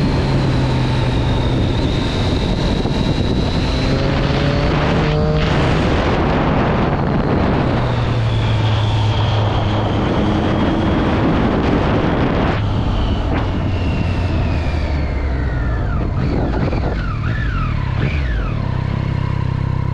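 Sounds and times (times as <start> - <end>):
wind noise on microphone: 0.0 - 19.0
motorcycle engine running: 0.0 - 19.9.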